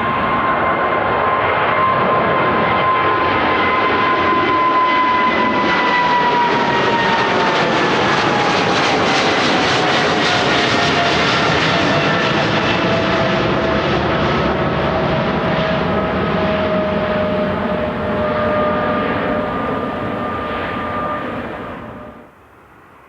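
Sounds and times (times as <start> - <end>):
jet engines passing with whine: 0.0 - 23.0.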